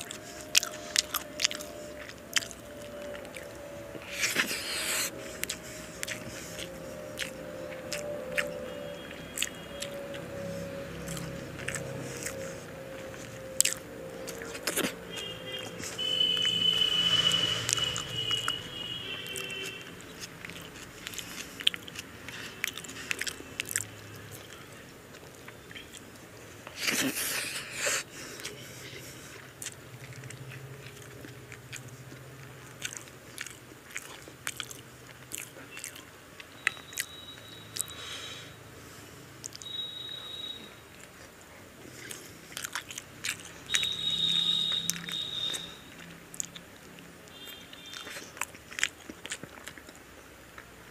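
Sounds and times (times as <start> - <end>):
chewing and mouth smacks: 0.0 - 38.2, 39.4 - 50.9.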